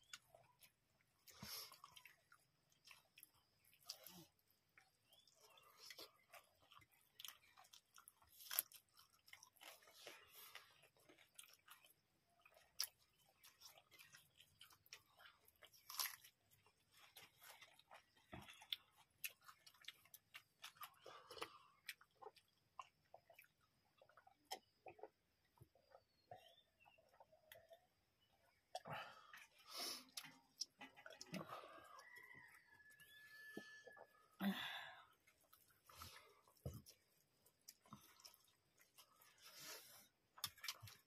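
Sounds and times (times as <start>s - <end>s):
people chewing: 0.0s - 41.0s.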